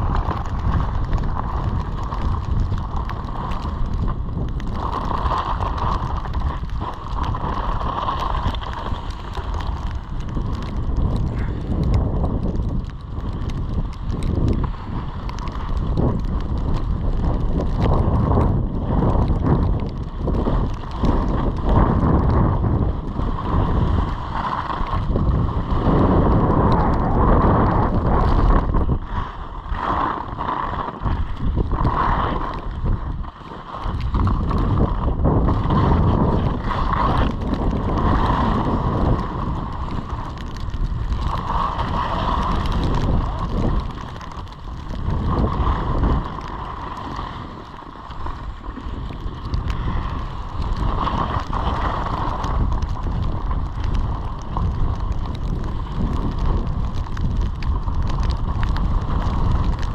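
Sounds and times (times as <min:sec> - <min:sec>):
skis scraping on snow: 0:00.0 - 0:59.9
wind buffeting microphone: 0:00.0 - 0:59.9.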